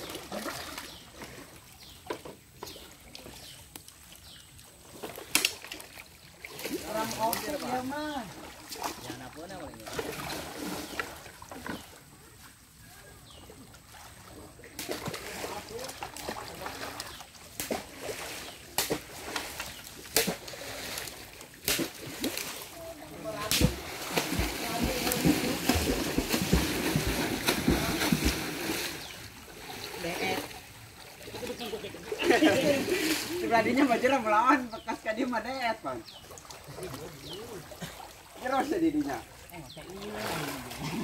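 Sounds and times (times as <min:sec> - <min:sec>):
water splashing and sloshing: 0:00.0 - 0:41.0.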